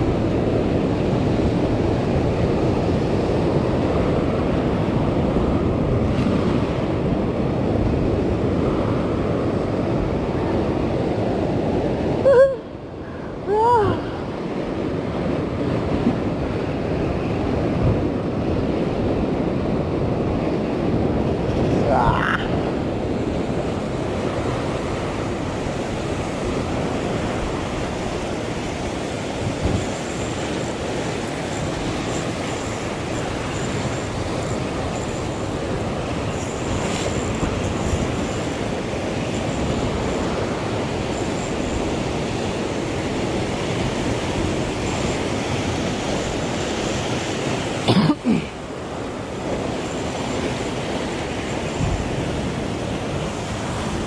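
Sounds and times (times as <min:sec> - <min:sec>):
sea surf: 0:00.0 - 0:54.0
wind: 0:00.0 - 0:54.0.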